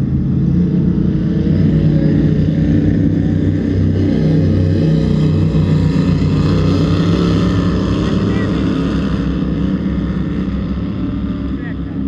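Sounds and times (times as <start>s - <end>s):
powerboat engines droning: 0.0s - 12.0s.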